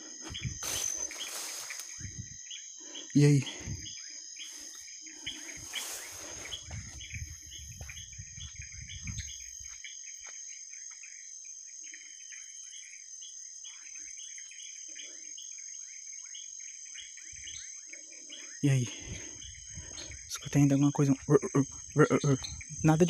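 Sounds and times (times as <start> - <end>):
night insects trilling: 0.0 - 23.0.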